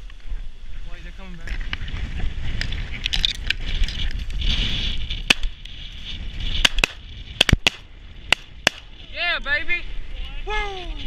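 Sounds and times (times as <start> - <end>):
crackling rustle: 0.0 - 11.0
wind buffeting microphone: 0.0 - 11.0.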